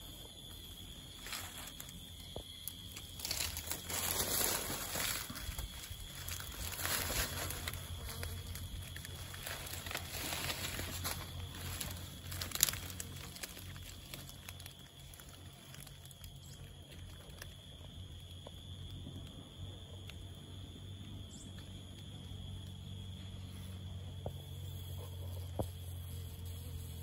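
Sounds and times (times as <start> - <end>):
high insect trill: 0.0 - 27.0.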